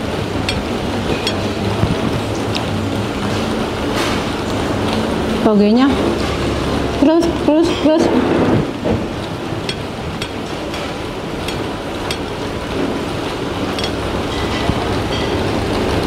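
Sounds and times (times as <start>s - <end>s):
restaurant background noise: 0.0s - 16.0s.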